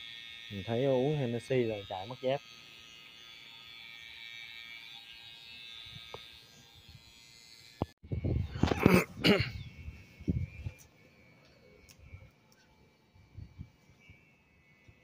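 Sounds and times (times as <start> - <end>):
electric hair trimmer buzzing: 0.0 - 15.0.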